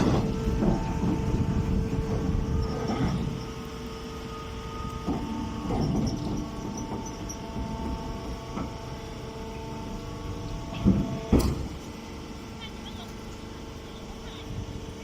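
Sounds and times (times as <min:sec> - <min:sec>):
hydraulic power pack humming: 0:00.0 - 0:15.0.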